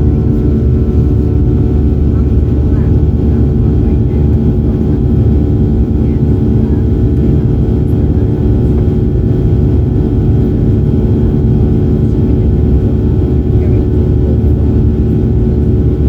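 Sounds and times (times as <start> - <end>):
airplane cabin rumble: 0.0 - 16.0
jet engine hum: 0.0 - 16.0.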